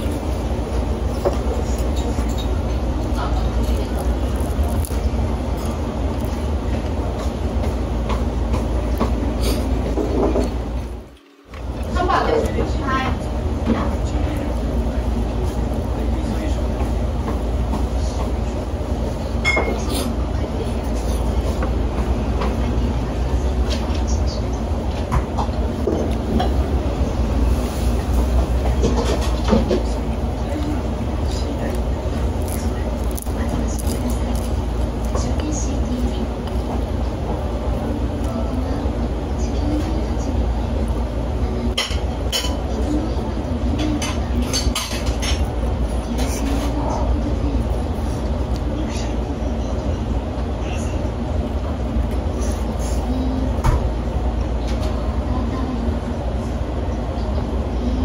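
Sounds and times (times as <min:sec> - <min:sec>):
room background rumble: 0:00.0 - 0:58.0.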